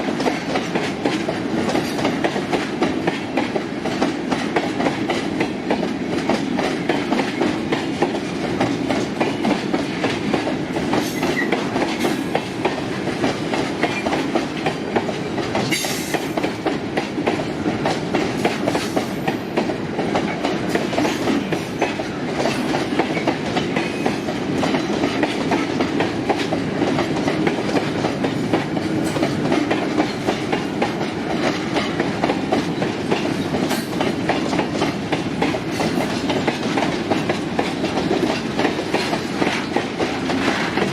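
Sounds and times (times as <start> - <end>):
train rumble: 0.0 - 40.9
train wheels clacking on rails: 0.0 - 40.9.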